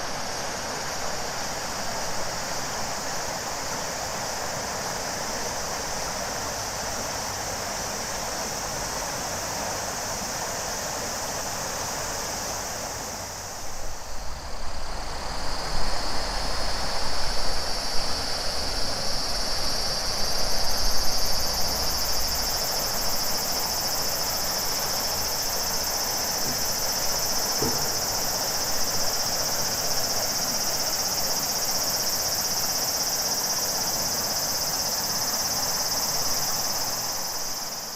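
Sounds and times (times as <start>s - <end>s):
cicadas buzzing: 0.0s - 37.9s.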